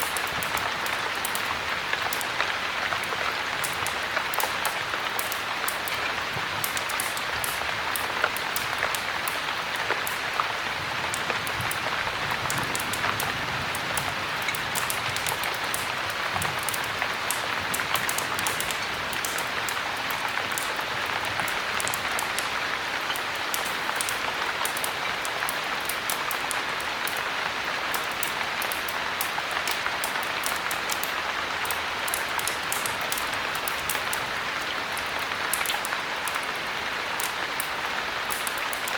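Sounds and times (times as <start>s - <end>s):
heavy rain: 0.0s - 38.9s
wood fire crackling: 0.0s - 38.9s.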